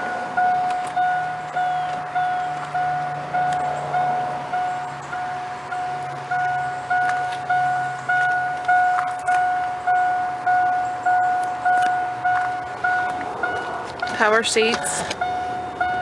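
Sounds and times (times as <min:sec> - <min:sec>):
dashboard warning chime: 0:00.0 - 0:16.0.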